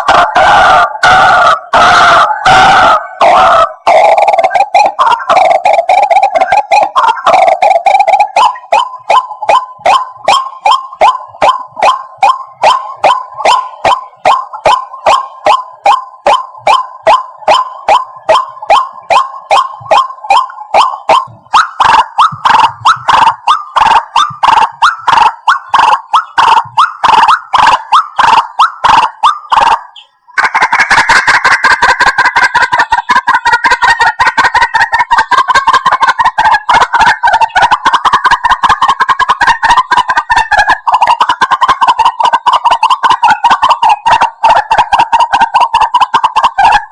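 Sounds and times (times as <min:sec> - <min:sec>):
waterhen calling: 0:00.0 - 0:46.9.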